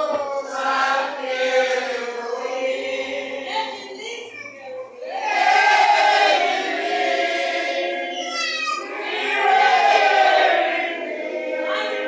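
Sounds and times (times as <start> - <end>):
congregation singing: 0.0 - 4.2, 4.9 - 12.0.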